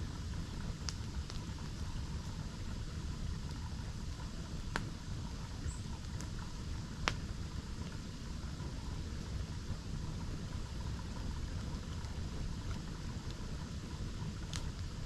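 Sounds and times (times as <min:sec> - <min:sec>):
campfire pops: 0:00.0 - 0:15.0.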